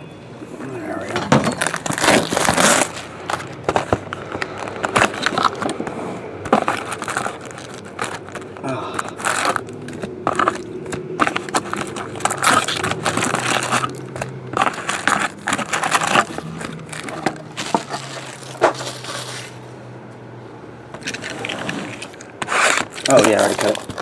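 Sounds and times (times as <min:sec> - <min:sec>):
cardboard being handled: 0:01.0 - 0:19.6, 0:21.0 - 0:24.0
plastic wrapping crinkling: 0:01.0 - 0:19.6, 0:21.0 - 0:24.0.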